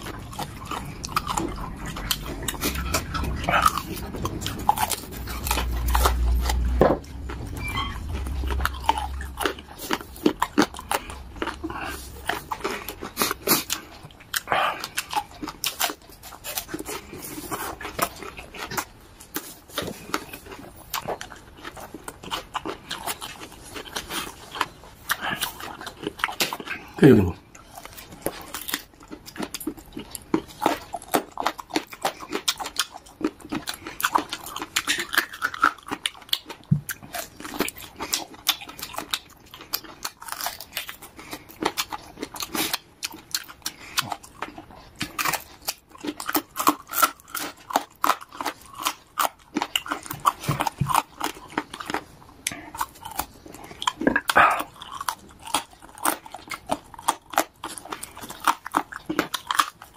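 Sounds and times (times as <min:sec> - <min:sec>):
chewing and gnawing cartilage: 0:00.0 - 0:59.9.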